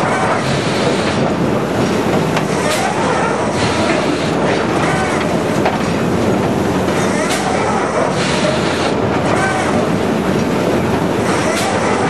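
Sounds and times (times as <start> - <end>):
log feeder mechanical rumble: 0.0 - 12.0.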